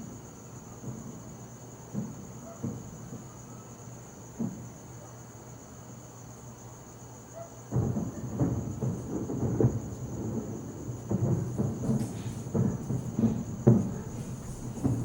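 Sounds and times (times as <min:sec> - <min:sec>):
fireworks booming: 0:00.1 - 0:04.9, 0:07.6 - 0:15.0.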